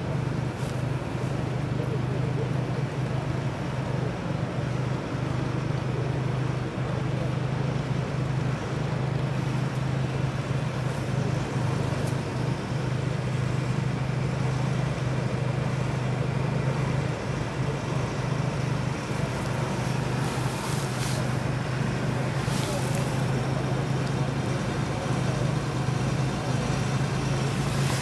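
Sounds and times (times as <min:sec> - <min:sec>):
tractor diesel engine: 0:00.0 - 0:28.0.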